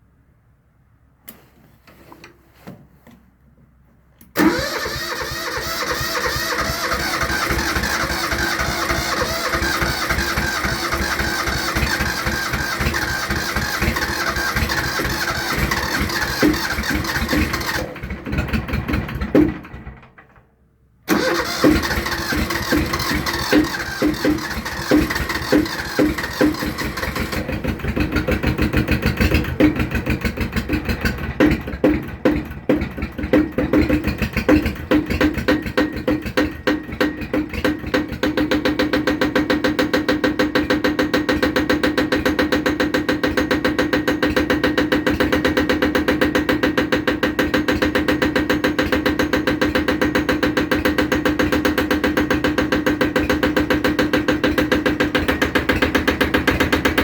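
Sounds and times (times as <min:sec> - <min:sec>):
diesel tractor engine knocking: 0:04.4 - 0:20.4, 0:21.1 - 0:57.0.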